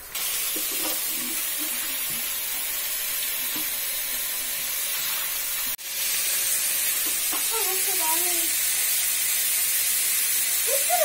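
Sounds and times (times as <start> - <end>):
kitchen tap running: 0.0 - 11.0.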